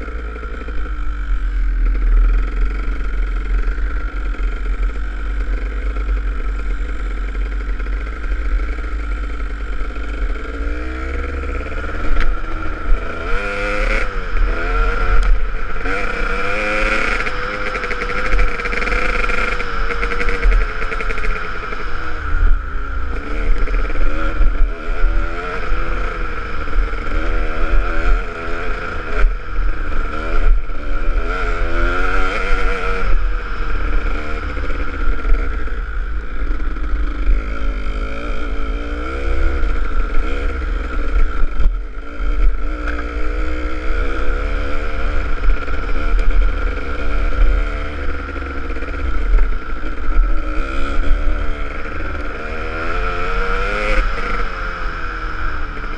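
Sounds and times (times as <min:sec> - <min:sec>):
two-stroke motorcycle engine revving: 0:00.0 - 0:55.9.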